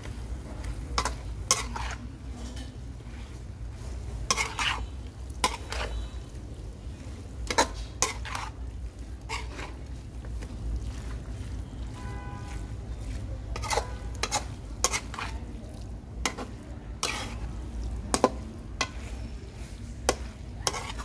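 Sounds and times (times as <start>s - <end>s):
sizzle of frying: 0.0s - 21.0s
metal utensil scraping a pan: 0.9s - 21.0s.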